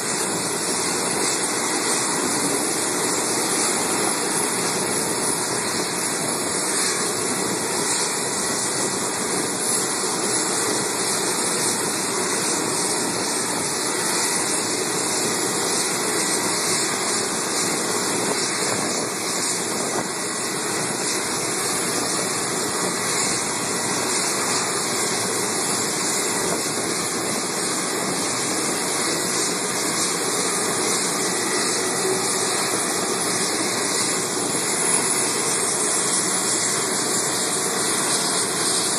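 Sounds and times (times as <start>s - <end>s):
jet engines hissing and rumbling: 0.0s - 38.9s.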